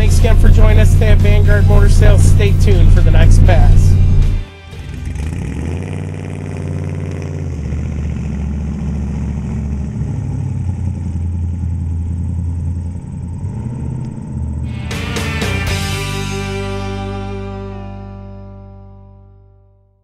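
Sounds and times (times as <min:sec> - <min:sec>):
car engine running: 0:00.0 - 0:17.7.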